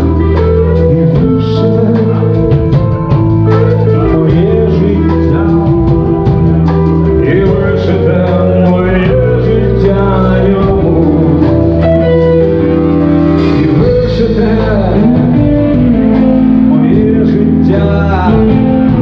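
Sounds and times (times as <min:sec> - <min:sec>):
live rock band music: 0:00.0 - 0:19.0.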